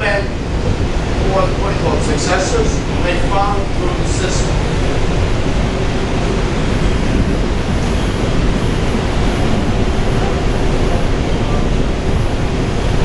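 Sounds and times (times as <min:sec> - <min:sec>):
subway train rumble inside car: 0:00.0 - 0:13.0.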